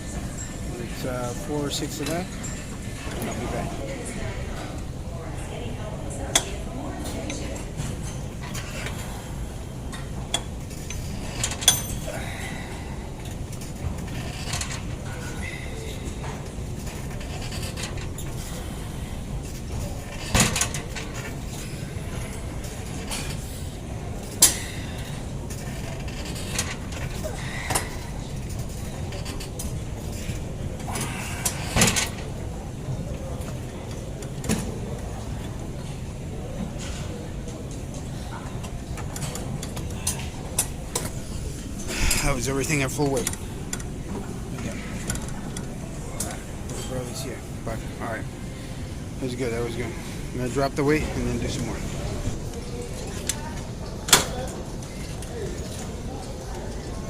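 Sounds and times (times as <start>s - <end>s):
gym room noise: 0.0s - 57.0s
steady low hum: 0.0s - 57.0s.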